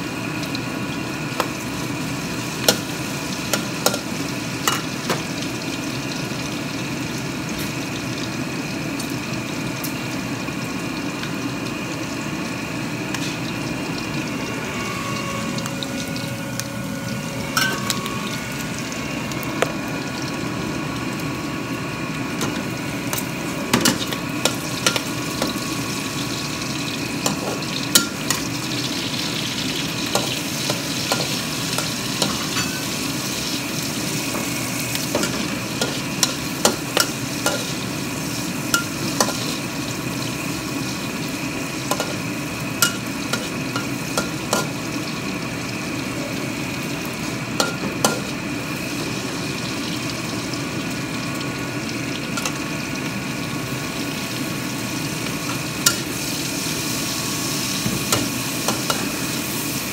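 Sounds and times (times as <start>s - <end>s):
mushrooms frying in a wok: 0.0s - 59.9s.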